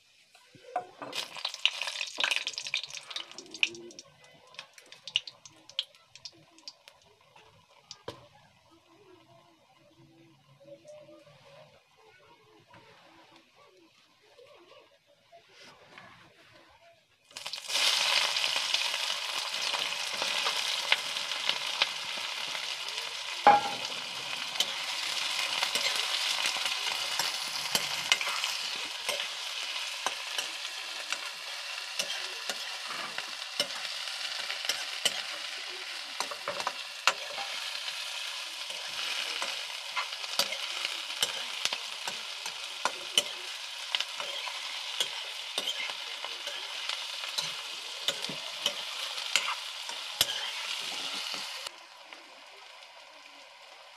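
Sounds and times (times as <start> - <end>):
onions sizzling in hot oil: 0.0 - 8.3, 17.2 - 53.9.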